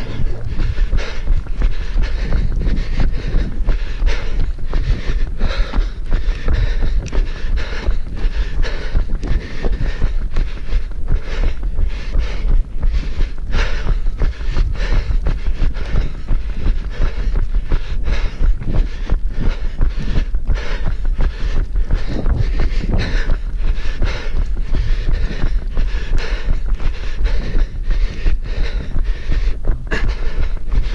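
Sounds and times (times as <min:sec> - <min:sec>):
running footsteps: 0:00.0 - 0:30.9
wind rumble on microphone: 0:00.0 - 0:30.9.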